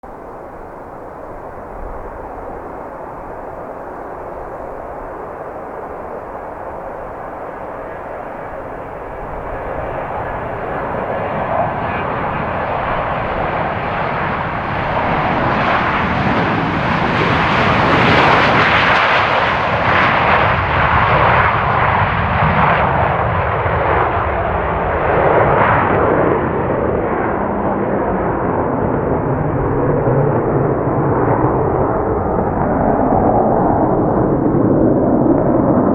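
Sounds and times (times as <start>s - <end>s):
jet engines roaring: 0.0s - 35.9s.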